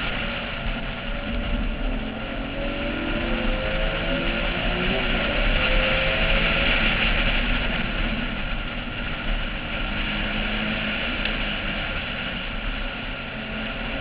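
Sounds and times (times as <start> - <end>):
car engine running: 0.0 - 14.0
wind rushing over microphone: 0.0 - 14.0.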